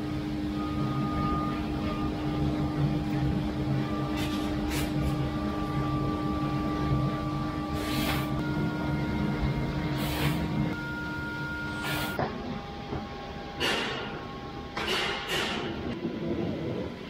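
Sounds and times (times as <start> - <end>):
warehouse machinery hum: 0.0 - 17.0.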